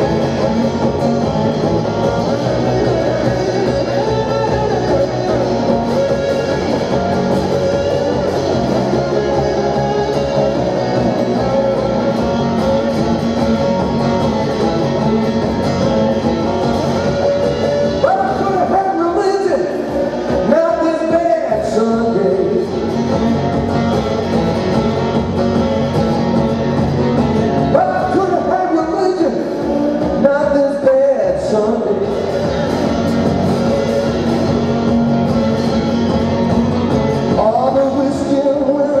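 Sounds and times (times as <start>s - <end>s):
blues guitar riff: 0.0s - 39.0s.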